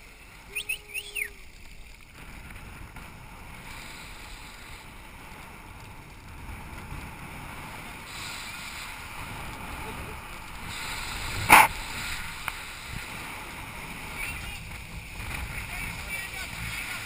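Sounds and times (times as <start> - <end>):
wind rushing over microphone: 2.1 - 17.0.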